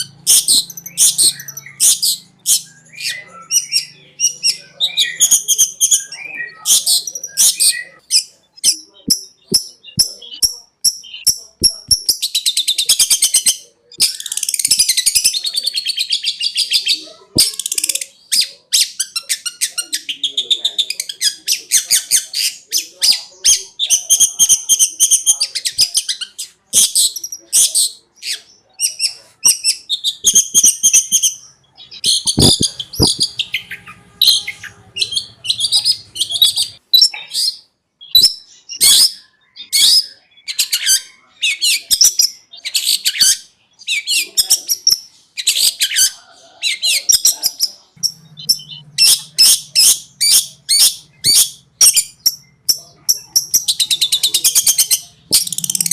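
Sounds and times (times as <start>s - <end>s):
bird chattering song: 0.0s - 55.9s.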